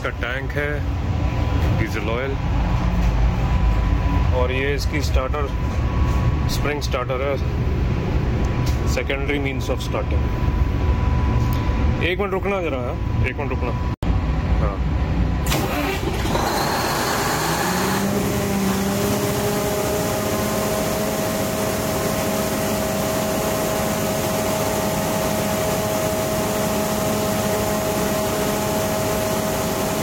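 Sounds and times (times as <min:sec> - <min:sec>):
diesel generator engine running: 0:00.0 - 0:30.0.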